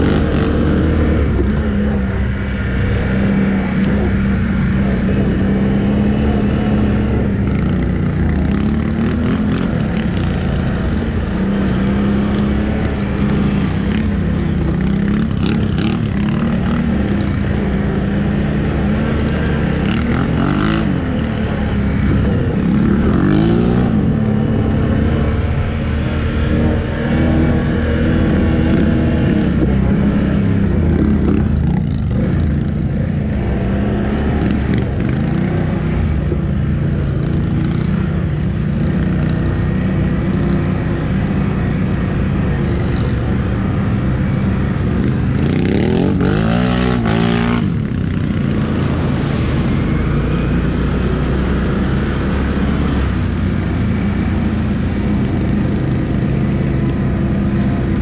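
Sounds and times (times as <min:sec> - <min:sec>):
atv engine revving under load: 0:00.0 - 0:58.0.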